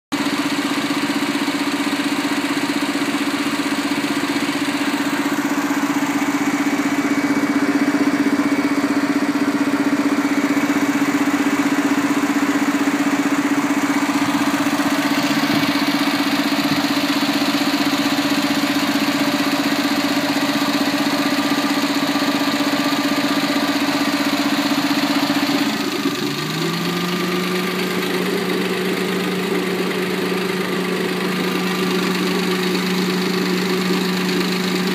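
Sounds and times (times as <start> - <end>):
car engine idling with popping: 0.1 - 34.9.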